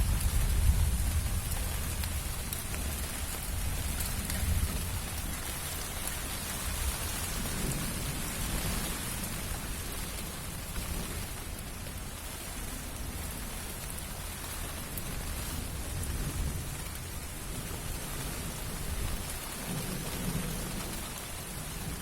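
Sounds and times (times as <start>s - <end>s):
heavy rain: 0.0s - 22.0s
wind: 0.0s - 22.0s.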